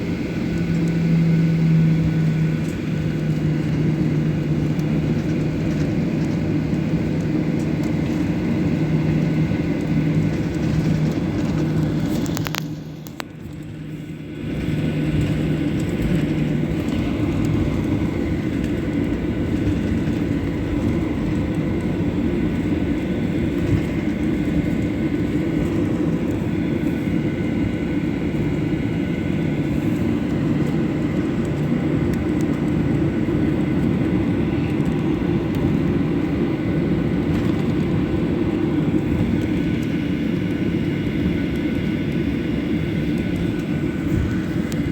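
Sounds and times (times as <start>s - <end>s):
jet engines rumbling in cabin: 0.0s - 44.9s.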